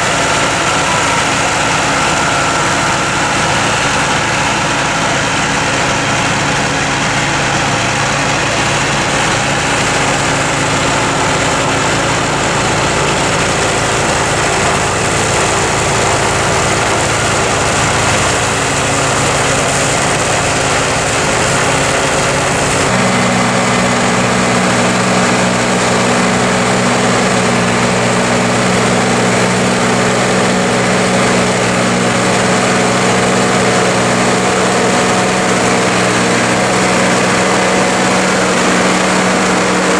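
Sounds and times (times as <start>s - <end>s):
forage harvester cutting: 0.0s - 39.9s
tractor diesel engine running: 0.0s - 39.9s.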